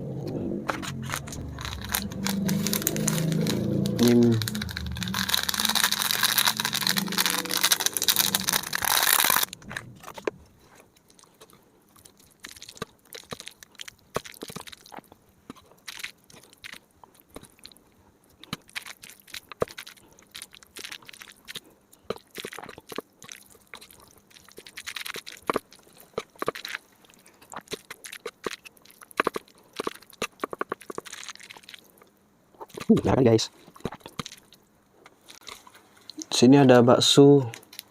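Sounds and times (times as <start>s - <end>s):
wet chewing and slurping: 0.1s - 33.0s, 33.6s - 36.2s.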